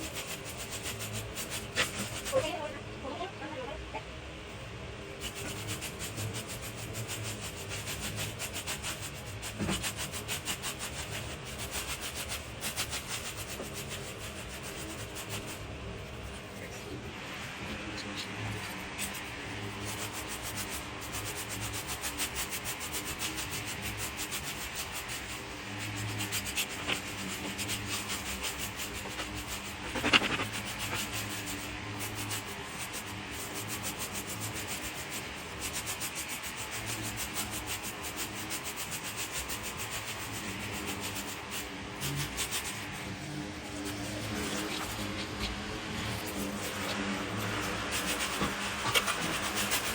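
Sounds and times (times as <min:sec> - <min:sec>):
rake scraping over ground: 0:00.0 - 0:02.8, 0:05.2 - 0:49.9
leaves rustling: 0:05.2 - 0:49.9.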